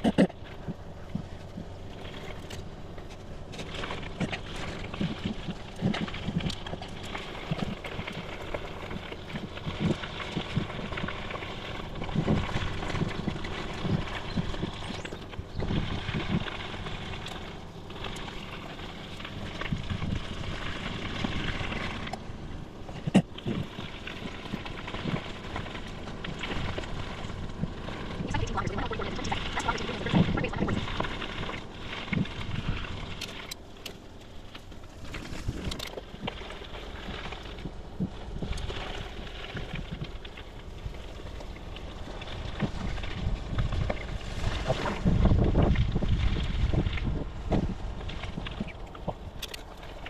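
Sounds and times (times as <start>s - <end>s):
bicycle tyres rolling on rough path: 0.0s - 50.0s.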